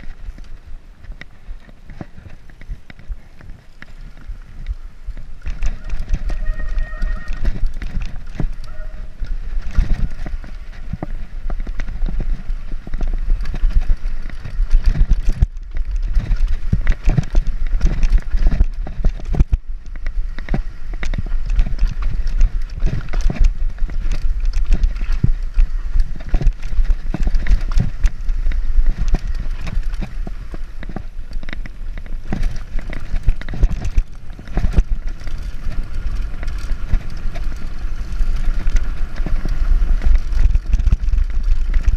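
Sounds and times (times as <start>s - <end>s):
bike knocks and clatters: 0.0s - 41.9s
low rumble: 0.0s - 41.9s.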